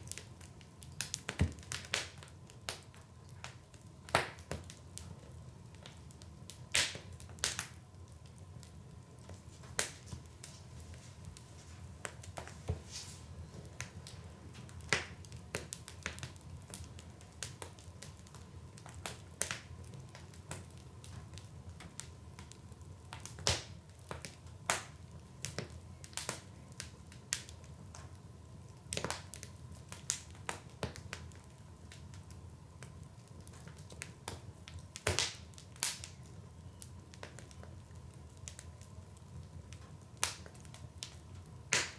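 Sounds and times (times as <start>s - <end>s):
crackles and pops of burning wood: 0.0s - 41.9s
low rumble of flame: 0.0s - 41.9s.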